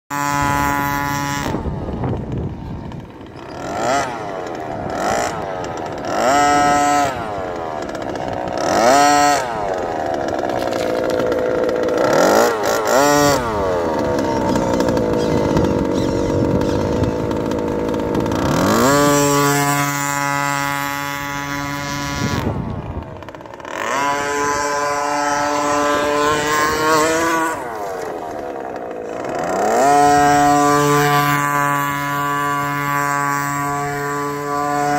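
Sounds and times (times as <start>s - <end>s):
small two-stroke engine revving: 0.1s - 34.9s.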